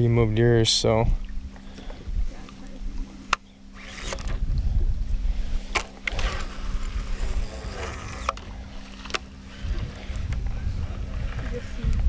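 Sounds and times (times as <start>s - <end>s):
fluctuating low rumble: 0.0s - 12.0s
steady low hum: 0.0s - 12.0s.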